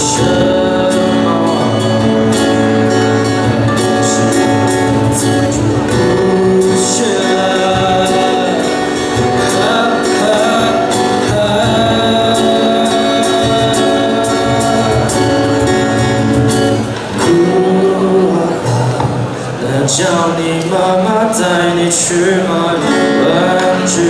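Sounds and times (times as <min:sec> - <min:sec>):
person singing: 0:00.0 - 0:24.0
strummed acoustic guitar: 0:00.0 - 0:24.0.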